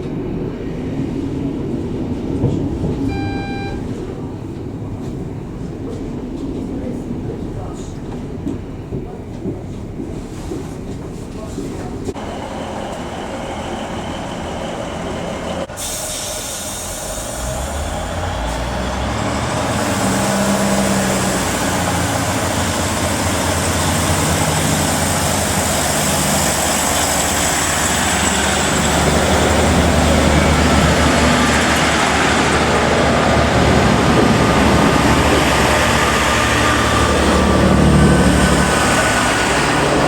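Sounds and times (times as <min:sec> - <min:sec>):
diesel train running: 0:00.0 - 0:10.6, 0:12.1 - 0:40.0.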